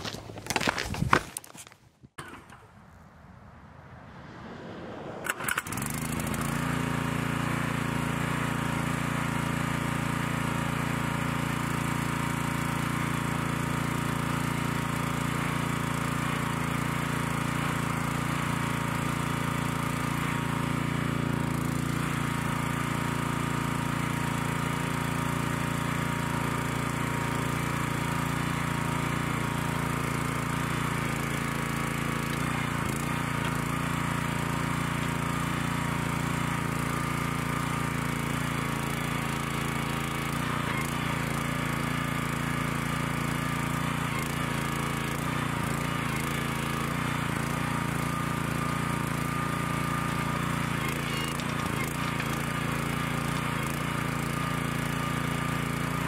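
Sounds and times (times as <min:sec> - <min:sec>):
small gas engine running: 0:00.0 - 0:02.9, 0:04.2 - 0:56.0.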